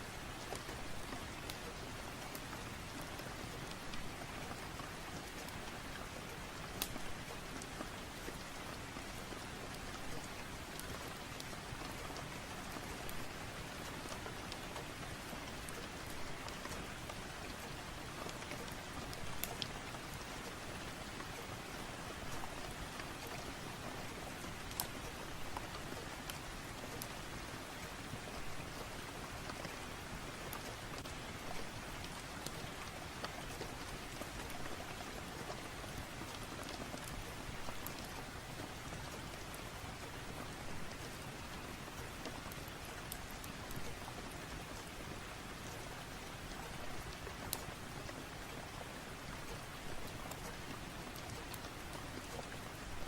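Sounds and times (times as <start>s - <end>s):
raindrops ticking: 0.0s - 53.0s
steady rain: 0.0s - 53.0s.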